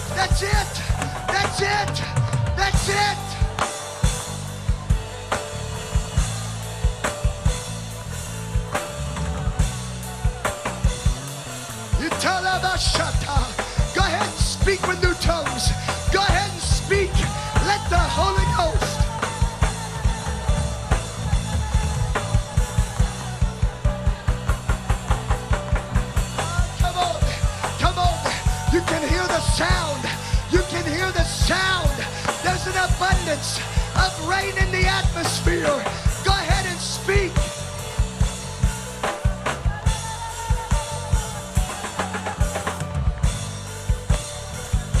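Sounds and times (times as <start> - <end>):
band music with drum kit: 0.0 - 45.0
drum and cymbal hits: 0.0 - 45.0
steady bass line: 0.0 - 45.0
sustained keyboard or guitar chords: 0.0 - 45.0.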